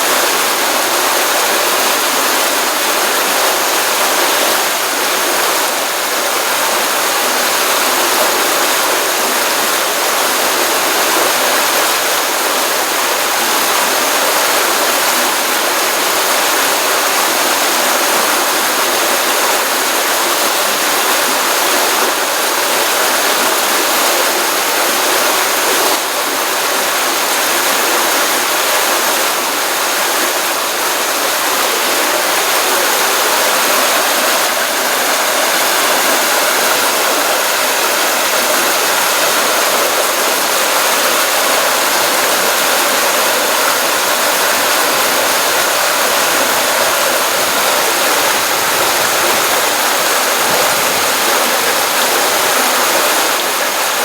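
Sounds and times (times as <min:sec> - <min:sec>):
stream water over rocks: 0:00.0 - 0:54.0.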